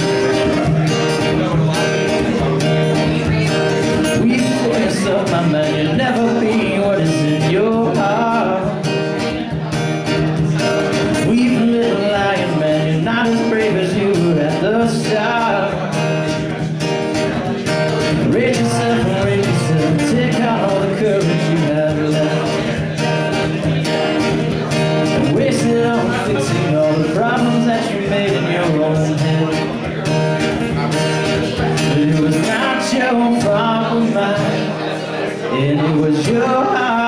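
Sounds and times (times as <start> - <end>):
acoustic guitar strumming: 0.0 - 37.0
man singing: 0.0 - 37.0.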